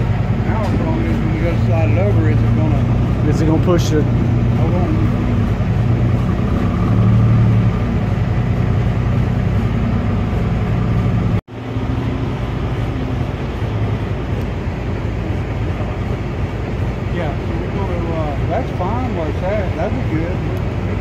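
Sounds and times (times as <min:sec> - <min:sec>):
heavy equipment engine under load: 0:00.0 - 0:21.0.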